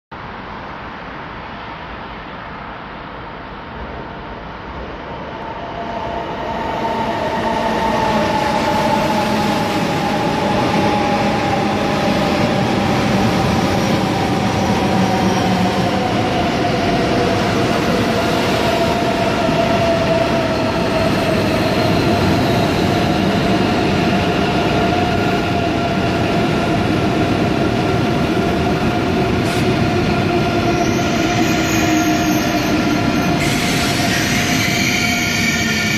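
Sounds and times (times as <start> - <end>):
train wheels rumbling on rail: 3.7 - 35.9.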